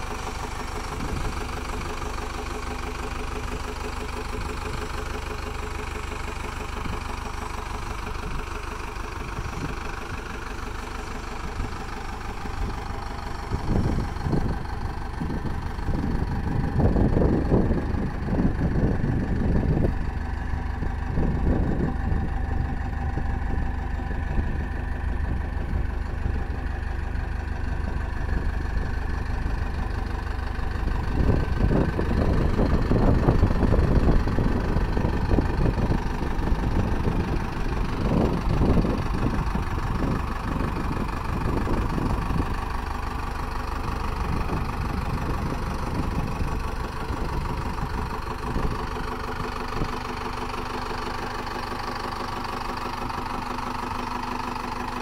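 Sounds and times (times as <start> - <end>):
diesel engine idling: 0.0 - 55.0
irregular rumble: 9.1 - 55.0.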